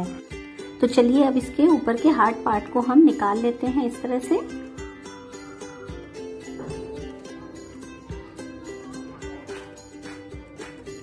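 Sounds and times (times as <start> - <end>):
light music with bell-like notes: 0.0 - 11.0.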